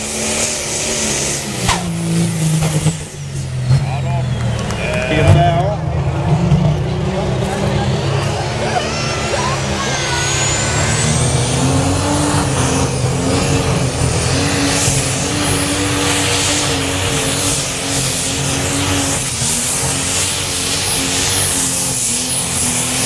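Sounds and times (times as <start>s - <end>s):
high-pitched whine: 0.0s - 23.0s
tractor engine running loud: 0.0s - 23.0s.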